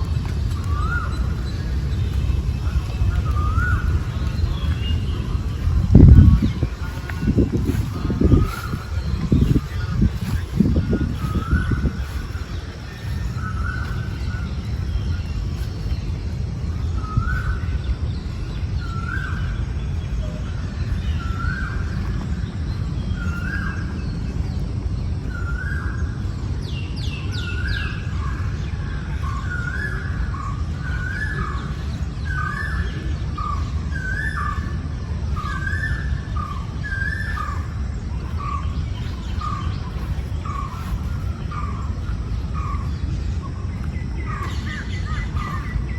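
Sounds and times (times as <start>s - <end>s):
steady low rumble: 0.0s - 45.9s.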